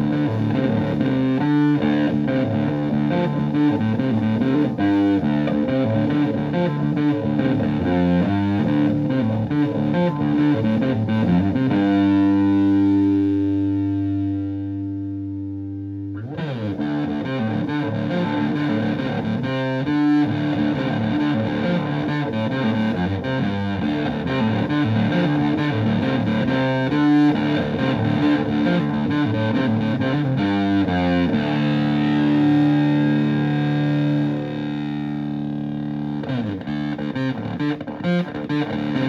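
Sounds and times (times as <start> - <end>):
distorted electric guitar: 0.0 - 39.0.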